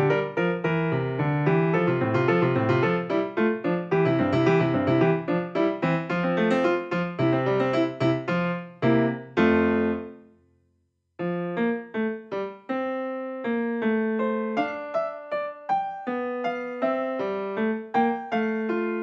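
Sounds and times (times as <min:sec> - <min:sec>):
piano music: 0:00.0 - 0:10.3, 0:11.2 - 0:19.0.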